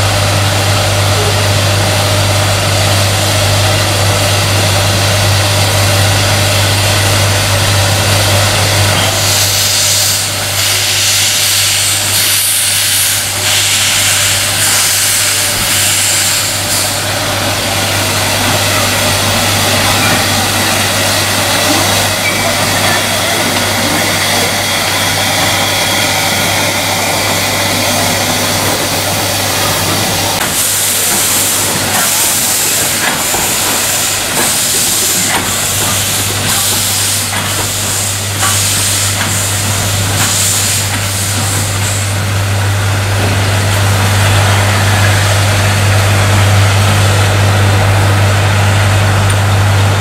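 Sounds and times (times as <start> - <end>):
steam locomotive exhaust chuffs: 0.0 - 50.0.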